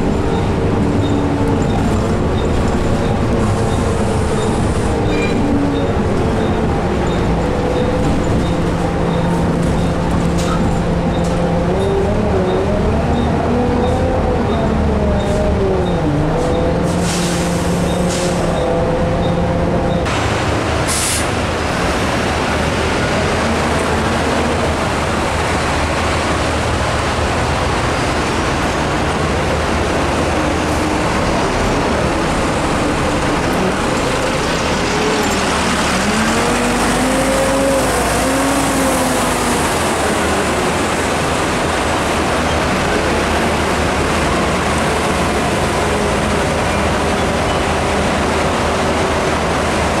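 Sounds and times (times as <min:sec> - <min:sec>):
bus diesel engine running: 0:00.0 - 0:50.0.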